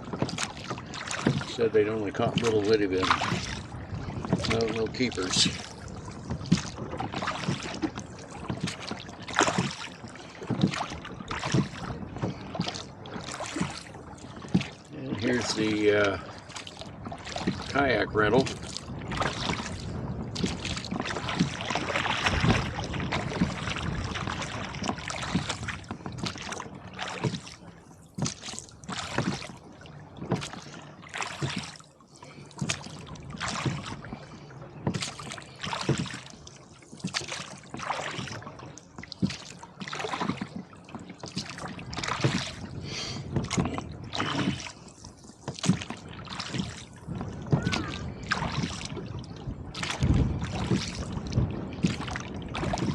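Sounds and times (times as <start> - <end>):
oar strokes in water: 0.0 - 52.9
water splashing: 0.0 - 52.9.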